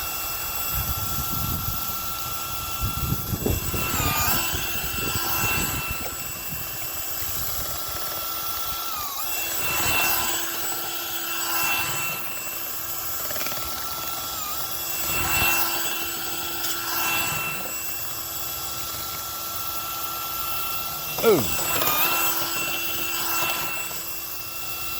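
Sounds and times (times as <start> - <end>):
power tool electric motor: 0.0 - 24.9.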